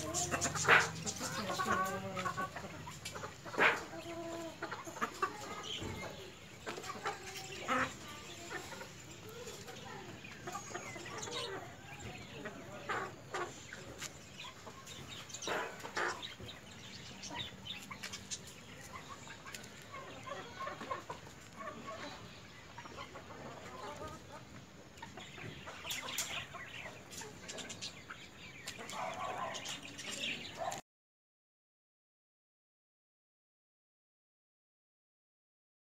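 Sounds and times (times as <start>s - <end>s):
chickens clucking: 0.0s - 30.8s.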